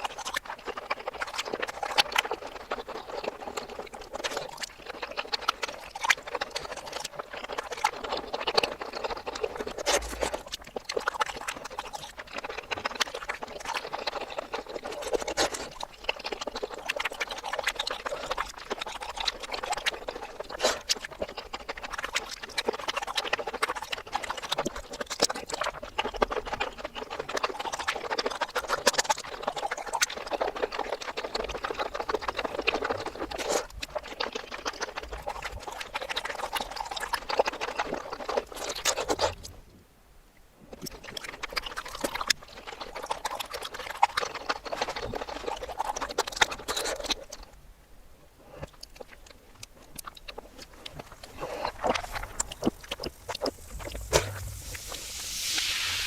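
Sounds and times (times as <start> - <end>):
wet chewing and smacking: 0.0 - 39.8, 40.6 - 55.7.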